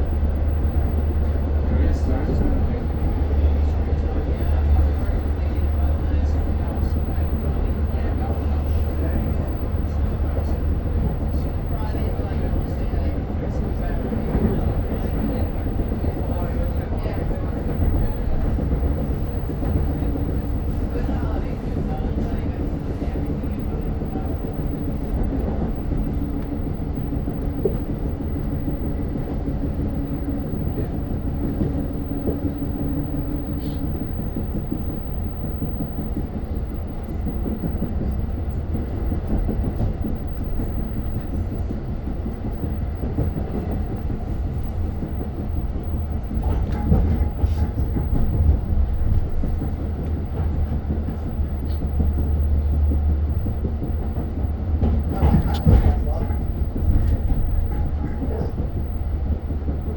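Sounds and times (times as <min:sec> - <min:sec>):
train rumble from inside car: 0:00.0 - 0:59.9.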